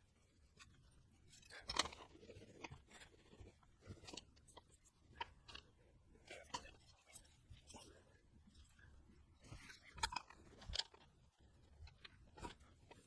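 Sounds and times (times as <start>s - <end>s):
faint small clicks and crackles: 0.0s - 13.0s.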